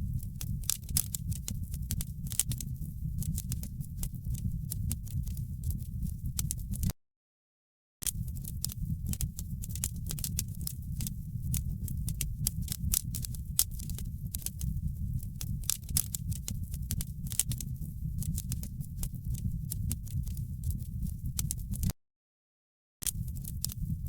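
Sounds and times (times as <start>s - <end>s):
wood fire crackling: 0.0s - 6.9s, 8.1s - 21.9s, 23.1s - 24.0s.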